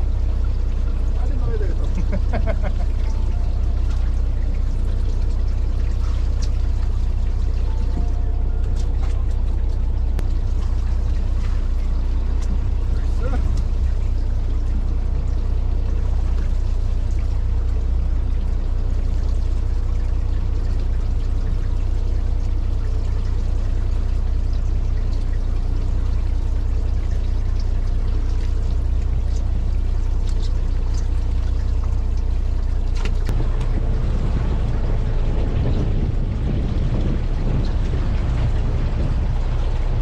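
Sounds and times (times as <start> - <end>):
boat engine droning: 0.0 - 40.0
water noise: 0.0 - 40.0.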